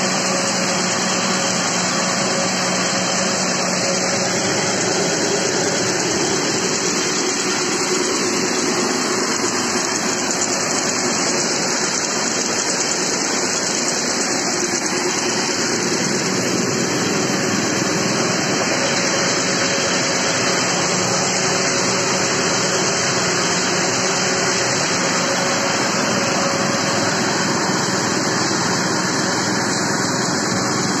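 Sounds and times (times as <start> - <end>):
harvester machine running under load: 0.0 - 31.0.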